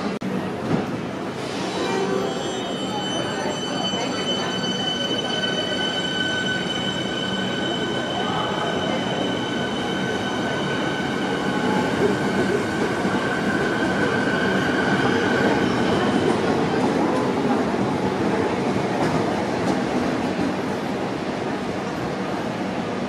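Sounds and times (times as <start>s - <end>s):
high train whine: 0.0s - 23.0s.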